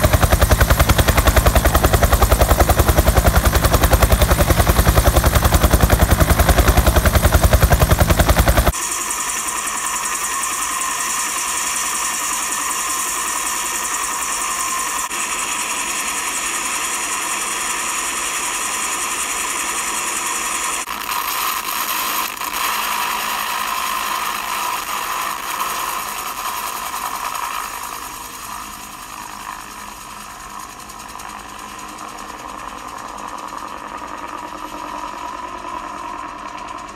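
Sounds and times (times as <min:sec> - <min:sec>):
helicopter rotor chopping: 0:00.0 - 0:36.9.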